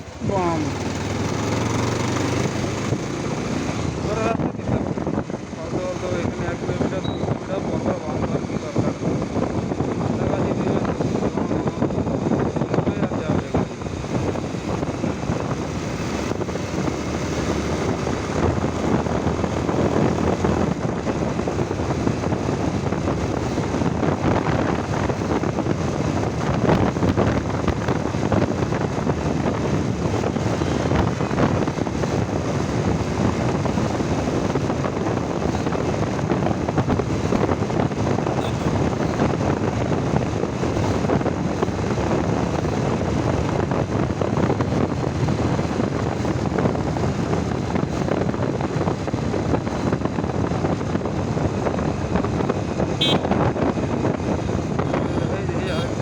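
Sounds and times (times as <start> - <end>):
motorcycle running: 0.0 - 56.0
wind rushing over microphone: 0.0 - 56.0.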